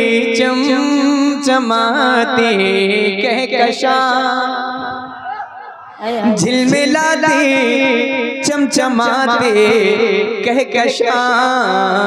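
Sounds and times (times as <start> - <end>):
man singing through a pa: 0.0 - 5.3, 5.9 - 12.0.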